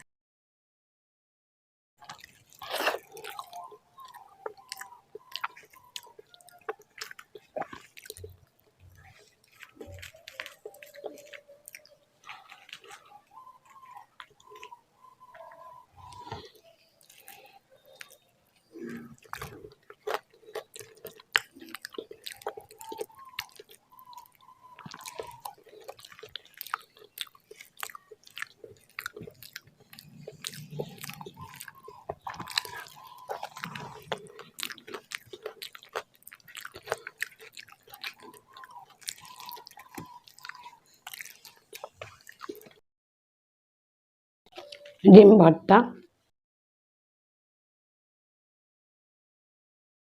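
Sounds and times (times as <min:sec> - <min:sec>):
close chewing with mouth clicks: 0:02.0 - 0:42.8, 0:44.5 - 0:45.0.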